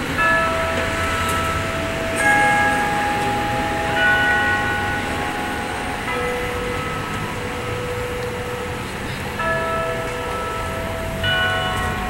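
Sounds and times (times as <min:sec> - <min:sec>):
clock tower chime bells: 0:00.0 - 0:12.0
street traffic noise: 0:00.0 - 0:12.0.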